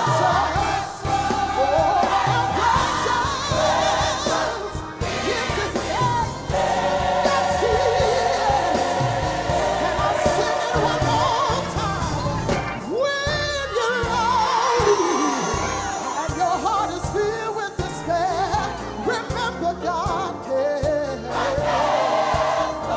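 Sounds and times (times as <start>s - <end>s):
choir singing gospel: 0.0s - 22.9s.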